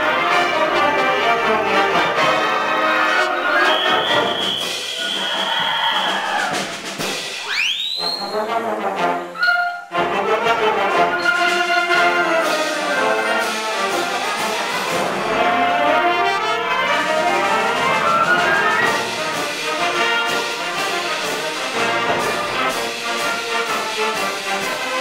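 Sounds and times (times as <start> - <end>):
concert band playing: 0.0 - 25.0.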